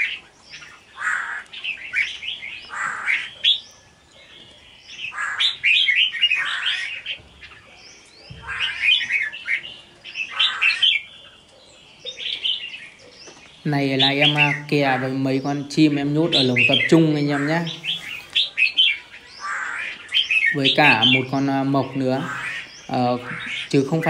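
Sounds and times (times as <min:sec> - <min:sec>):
birds chattering song: 0:00.0 - 0:24.0.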